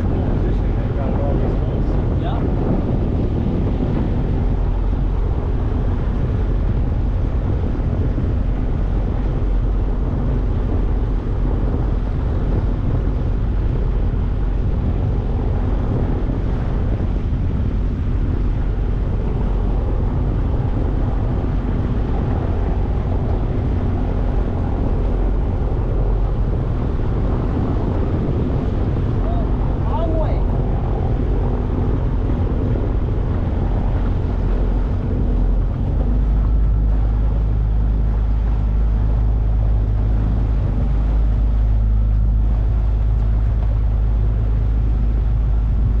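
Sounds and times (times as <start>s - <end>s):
motorboat engine running: 0.0s - 46.0s
wind rumbling on microphone: 0.0s - 46.0s.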